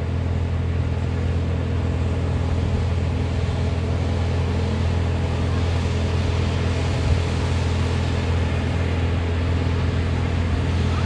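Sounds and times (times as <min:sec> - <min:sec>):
heavy crane engine droning: 0:00.0 - 0:11.0.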